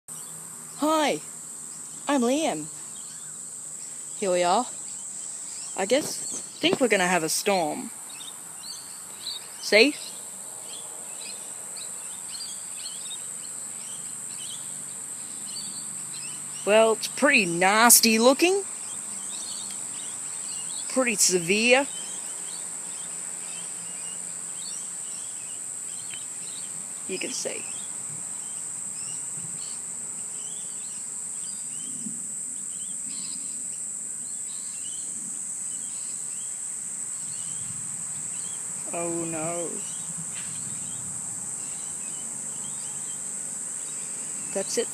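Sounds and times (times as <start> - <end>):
high-pitched insect drone: 0.1 - 44.9.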